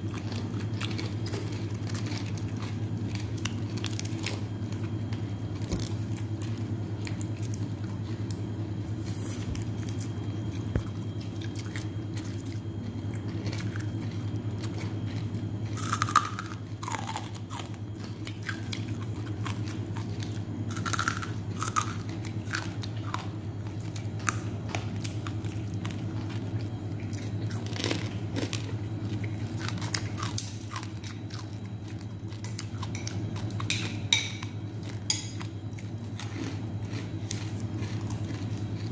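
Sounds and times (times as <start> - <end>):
chewing and crunching food: 0.0 - 38.9
steady low hum: 0.0 - 38.9.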